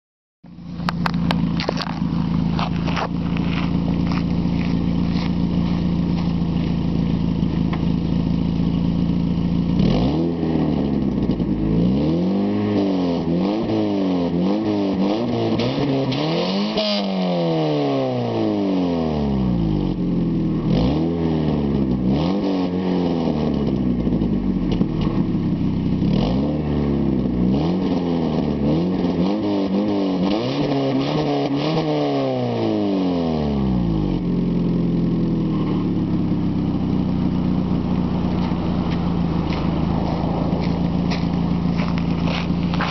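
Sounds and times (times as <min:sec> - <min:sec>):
car engine idling and revving: 0:00.4 - 0:42.9.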